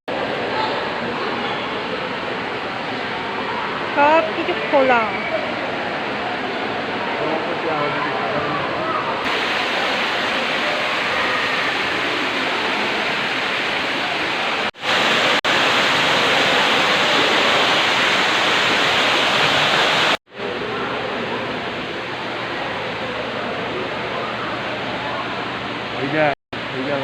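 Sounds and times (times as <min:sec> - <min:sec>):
falling water rushing: 0:00.1 - 0:25.1.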